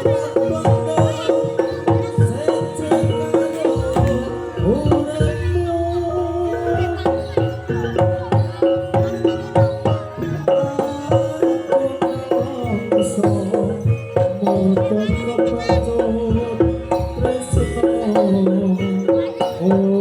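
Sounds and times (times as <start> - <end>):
hand drums beating: 0.0 - 20.0
ringing metal percussion: 0.0 - 20.0.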